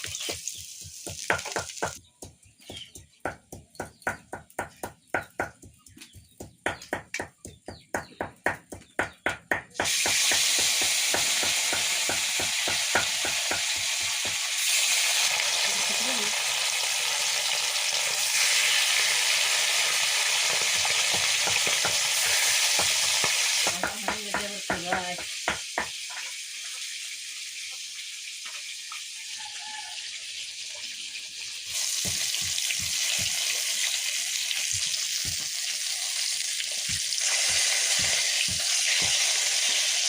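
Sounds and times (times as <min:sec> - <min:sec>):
food sizzling in hot oil: 0:00.0 - 0:03.2, 0:09.8 - 0:40.0.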